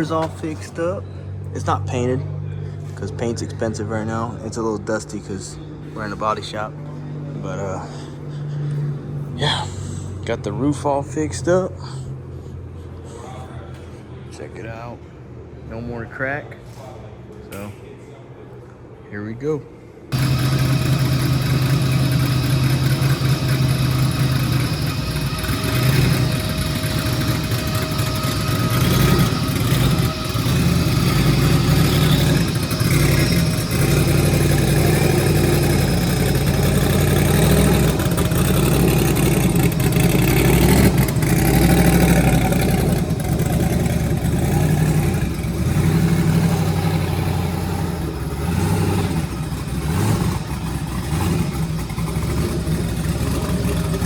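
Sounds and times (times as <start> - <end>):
car engine running: 0.0 - 10.2, 20.1 - 54.0.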